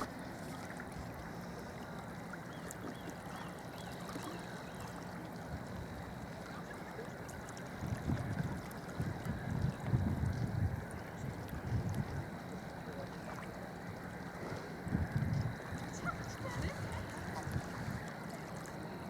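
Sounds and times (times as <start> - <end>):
small waves lapping at shore: 0.0 - 19.0.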